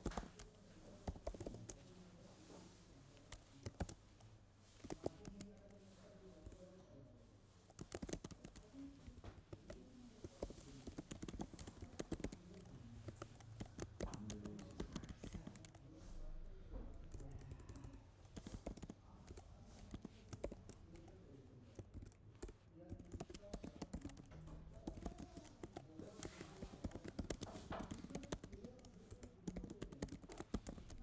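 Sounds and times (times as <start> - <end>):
keyboard typing: 0.0 - 1.9, 3.2 - 6.6, 7.7 - 31.0.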